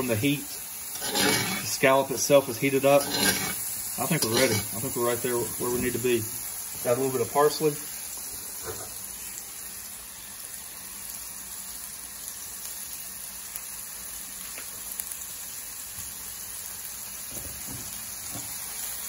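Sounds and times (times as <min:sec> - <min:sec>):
scallops sizzling in skillet: 0:00.0 - 0:19.0.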